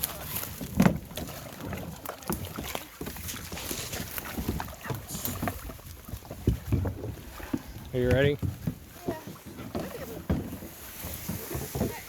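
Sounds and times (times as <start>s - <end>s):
kayak hulls and paddles knocking: 0.0s - 12.0s.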